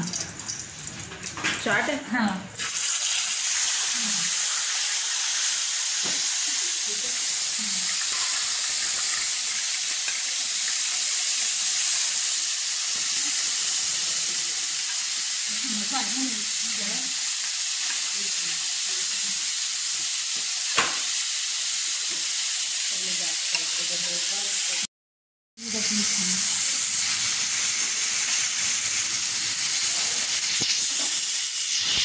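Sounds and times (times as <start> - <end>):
fish sizzling in hot oil: 0.0 - 24.9, 25.6 - 32.0.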